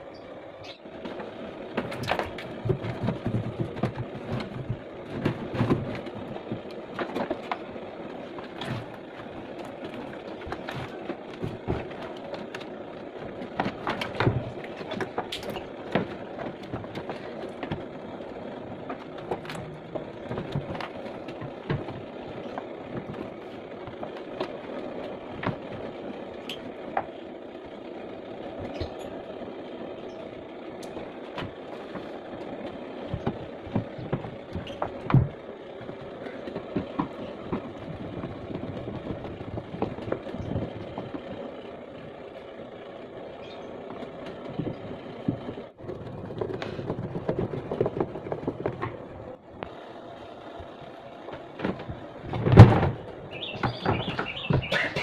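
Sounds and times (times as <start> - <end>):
steady background noise: 0.0 - 55.0
clicks and knocks of plastic parts: 0.8 - 42.8, 43.4 - 49.8, 50.4 - 55.0.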